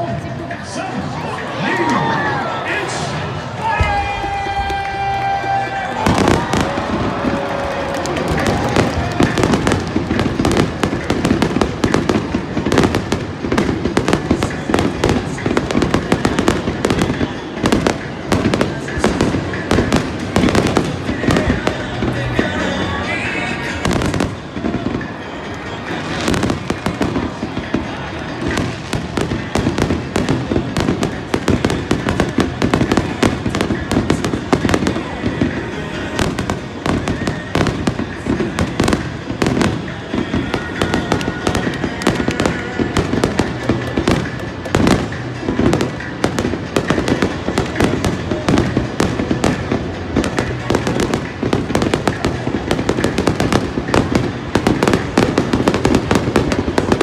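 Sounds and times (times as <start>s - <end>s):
fireworks bangs and crackles: 0.0s - 57.0s
music: 0.0s - 57.0s.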